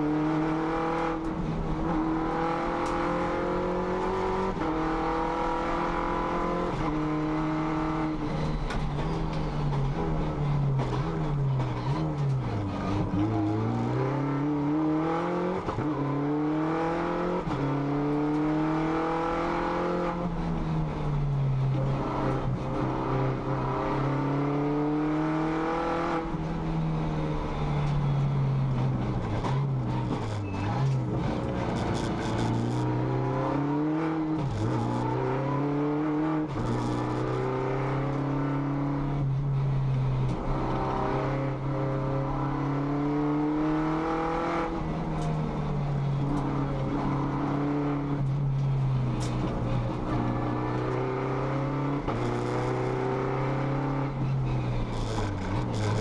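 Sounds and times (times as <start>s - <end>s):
racing car engine revving: 0.0s - 26.7s, 27.3s - 56.0s.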